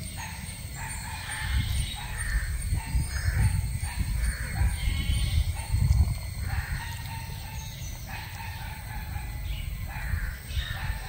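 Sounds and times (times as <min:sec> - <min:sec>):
bird calls: 0:00.0 - 0:11.0
low uneven rumble: 0:01.2 - 0:11.0.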